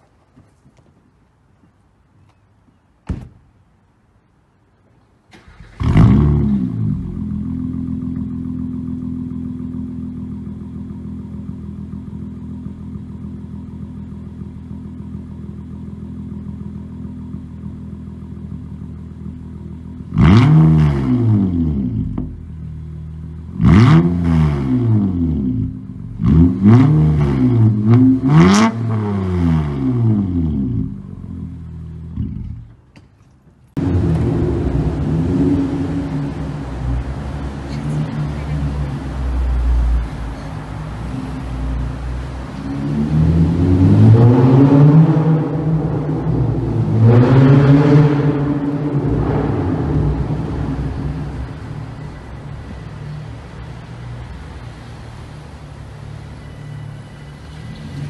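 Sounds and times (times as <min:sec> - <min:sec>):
car engine starting and revving: 0:05.3 - 0:32.8, 0:33.8 - 0:58.0.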